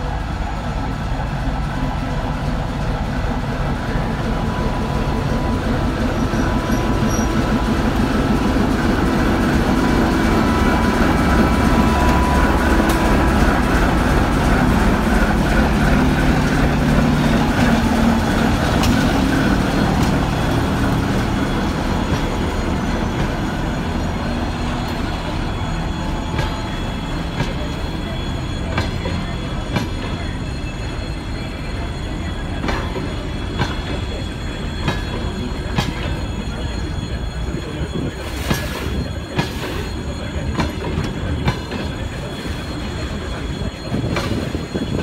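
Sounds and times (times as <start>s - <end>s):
diesel locomotive engine running: 0.0s - 45.0s.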